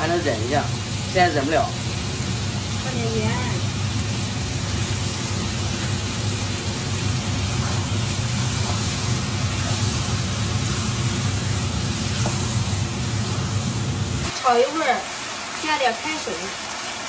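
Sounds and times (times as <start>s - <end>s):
food sizzling in a wok: 0.0s - 17.0s
range hood fan humming: 0.0s - 17.0s.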